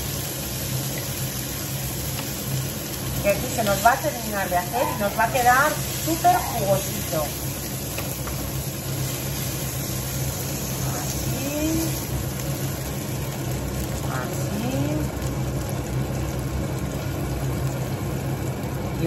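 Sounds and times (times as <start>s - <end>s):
extractor fan running: 0.0s - 19.0s.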